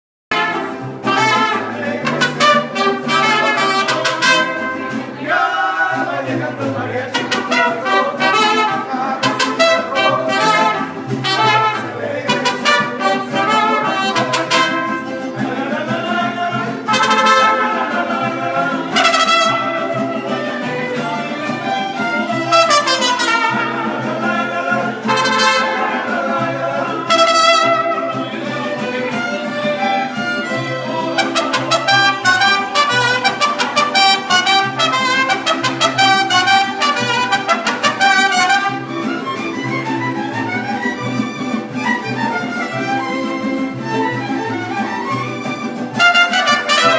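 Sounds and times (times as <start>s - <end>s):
mariachi trumpets: 0.3s - 46.9s
violins: 6.0s - 46.9s.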